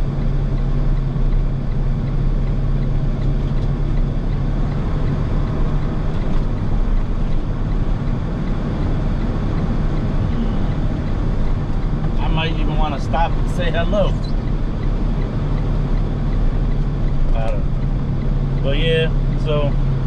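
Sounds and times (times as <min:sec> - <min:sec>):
road noise: 0:00.0 - 0:20.0
truck engine running: 0:00.0 - 0:20.0.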